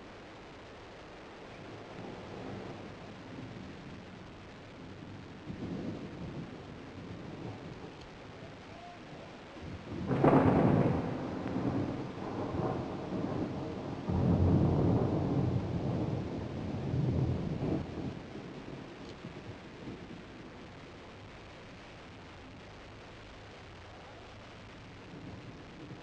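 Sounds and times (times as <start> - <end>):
steady rain hiss: 0.0 - 26.0
thunderclap rumbling: 1.5 - 26.0.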